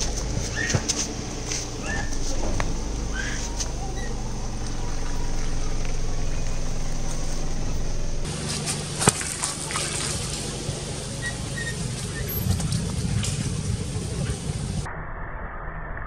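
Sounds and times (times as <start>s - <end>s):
tyre rolling over vegetables: 0.0s - 14.8s
low steady hum: 0.0s - 15.0s.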